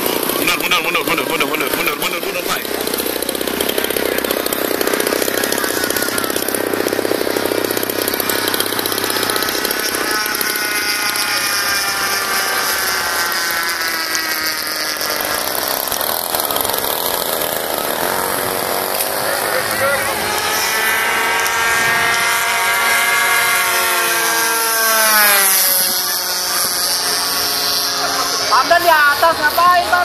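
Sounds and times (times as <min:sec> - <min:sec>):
model plane engine running hard: 0:00.0 - 0:30.0
model plane engines passing overhead: 0:00.0 - 0:30.0.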